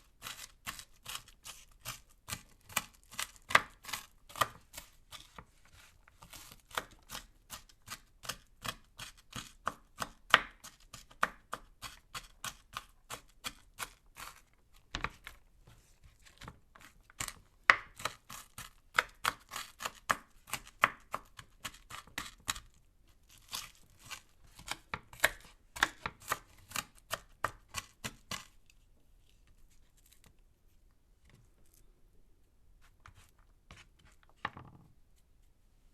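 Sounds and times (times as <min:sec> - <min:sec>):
knife chopping an onion: 0:00.0 - 0:15.4, 0:16.1 - 0:28.7, 0:32.9 - 0:34.5.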